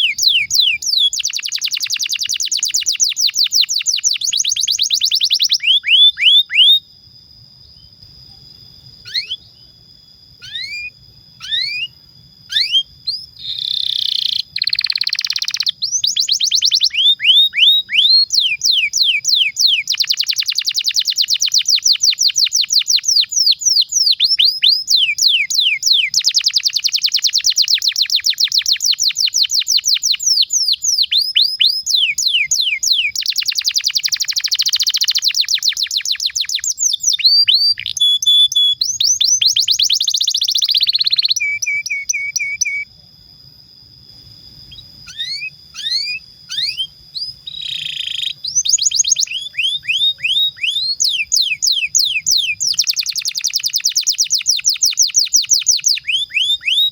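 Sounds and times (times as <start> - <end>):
canary singing: 0.0 - 6.8, 8.9 - 9.7, 10.4 - 42.9, 44.6 - 56.9.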